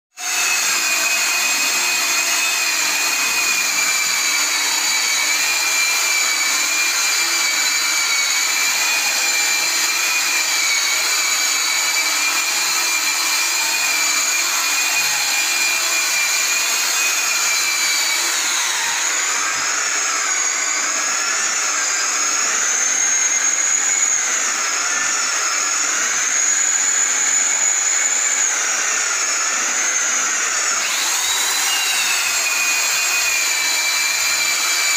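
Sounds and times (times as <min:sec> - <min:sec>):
floor polishers whining: 0:00.2 - 0:34.9.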